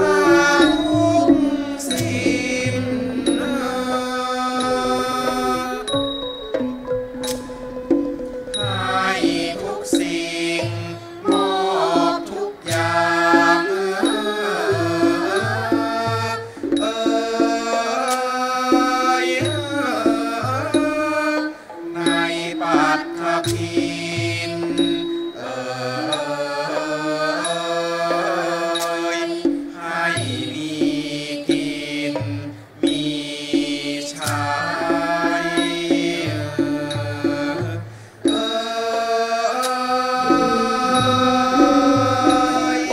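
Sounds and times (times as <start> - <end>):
women singing: 0.0 - 6.2, 7.2 - 42.9
classical ensemble accompaniment: 0.0 - 42.9
drum strokes: 0.0 - 42.9.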